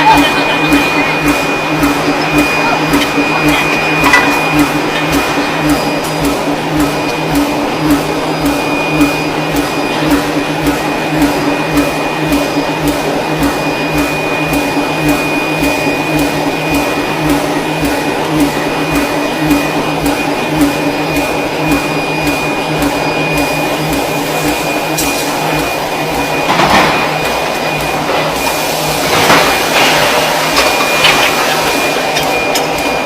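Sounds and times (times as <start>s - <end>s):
steady machinery hum: 0.0s - 33.0s.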